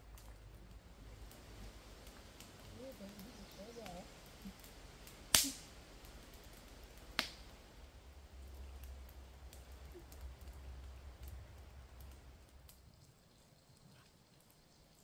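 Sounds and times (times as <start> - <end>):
wood campfire crackling: 0.0 - 15.0.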